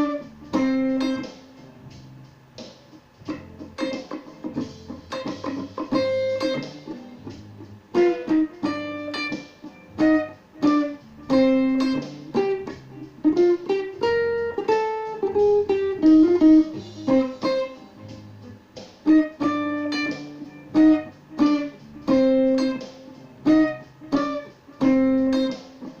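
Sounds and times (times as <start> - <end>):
electric guitar with chorus effect: 0.0 - 26.0.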